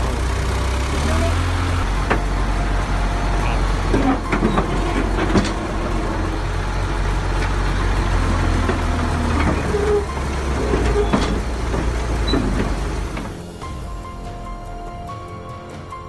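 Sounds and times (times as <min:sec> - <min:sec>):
diesel engine running: 0:00.0 - 0:16.0
knocks and clanks: 0:00.0 - 0:16.0.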